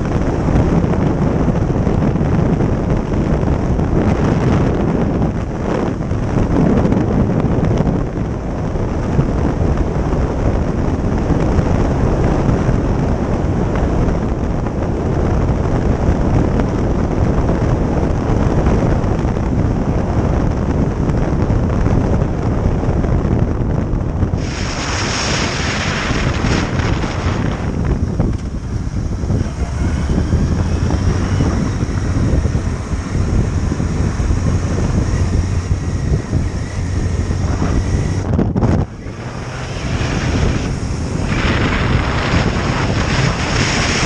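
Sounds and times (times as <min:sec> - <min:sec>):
motorcycle road and engine noise: 0:00.0 - 0:44.0
wind rushing over microphone: 0:00.0 - 0:44.0.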